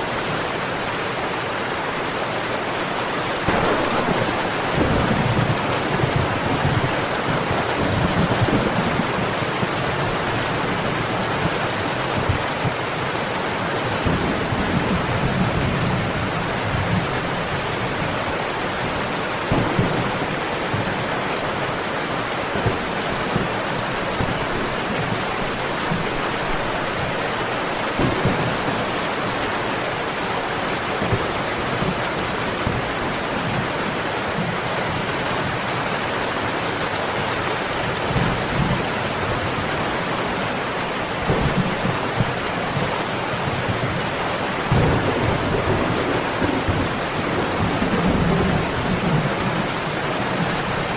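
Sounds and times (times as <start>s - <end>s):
dense rainfall: 0.0s - 50.9s.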